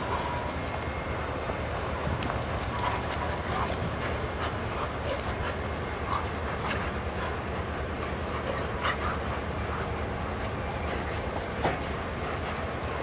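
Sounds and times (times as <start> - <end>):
dogs play-fighting noises: 1.4 - 13.0.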